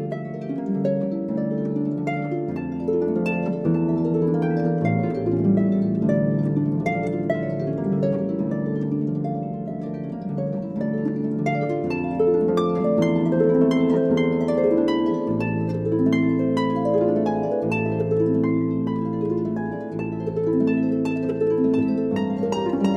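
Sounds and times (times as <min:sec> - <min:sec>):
plucked harp-like notes: 0:00.0 - 0:22.9.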